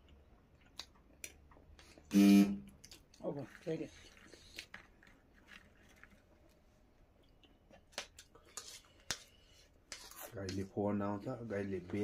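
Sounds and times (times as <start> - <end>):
faint chewing of food: 0.0 - 2.1, 2.7 - 11.4.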